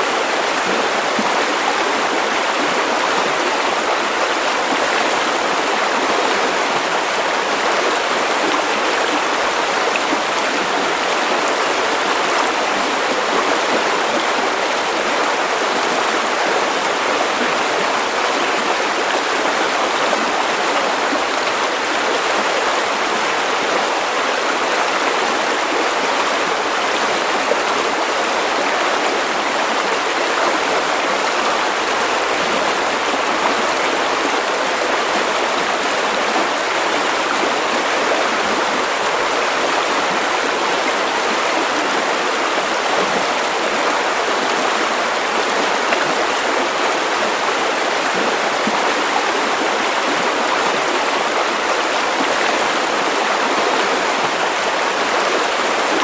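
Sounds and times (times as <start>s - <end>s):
river water over stones: 0.0s - 56.0s.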